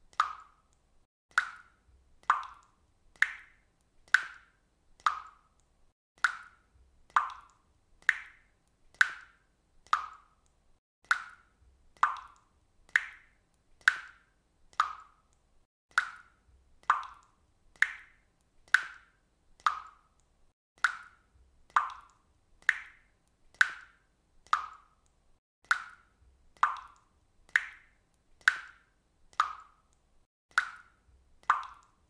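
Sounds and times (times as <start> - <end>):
faucet dripping water: 0.0 - 32.0.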